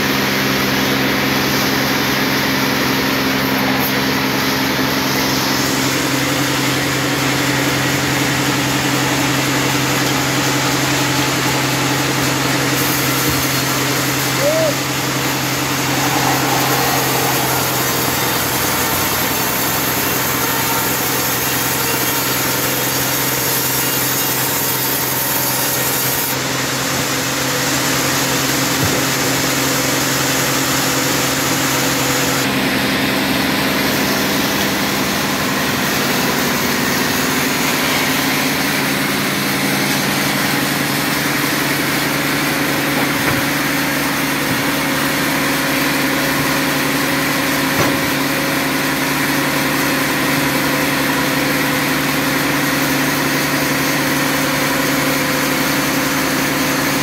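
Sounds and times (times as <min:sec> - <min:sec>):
band saw running: 0:00.0 - 0:32.8, 0:33.8 - 0:57.0.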